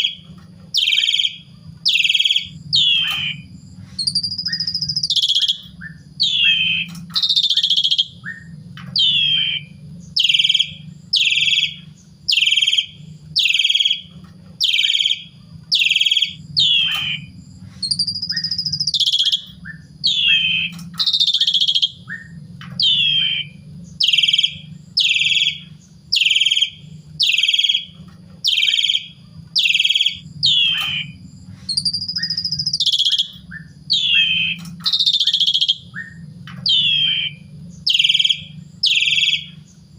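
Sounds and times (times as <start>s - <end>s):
low steady hum: 0.0s - 39.9s
starling whistling song: 0.0s - 39.9s.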